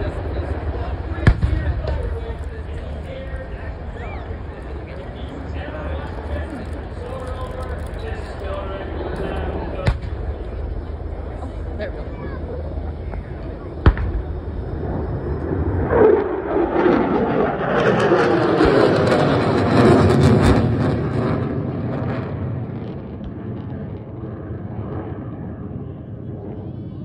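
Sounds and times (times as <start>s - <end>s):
military jets passing overhead: 0.0s - 27.0s.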